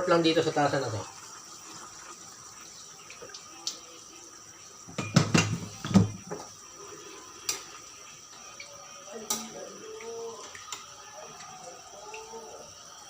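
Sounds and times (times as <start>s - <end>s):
water pouring into a pan: 0.0s - 13.0s.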